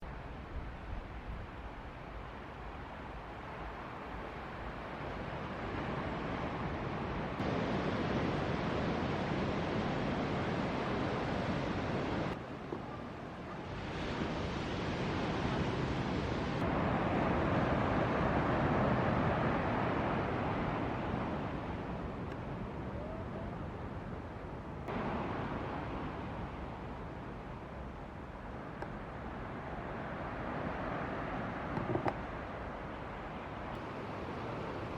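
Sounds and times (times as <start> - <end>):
ocean surf breaking: 2.6 - 34.9.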